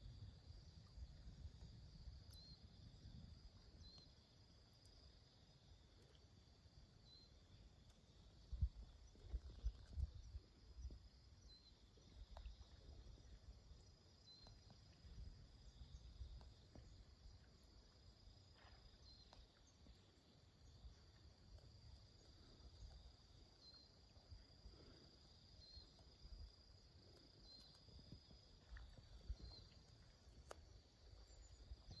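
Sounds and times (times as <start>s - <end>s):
insect chorus drone: 0.0s - 32.0s
short insect chirp: 0.0s - 32.0s.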